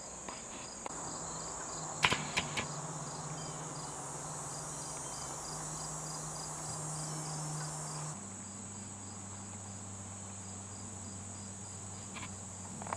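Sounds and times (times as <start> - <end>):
insect chirping: 0.0 - 12.9
low steady hum: 0.9 - 12.9.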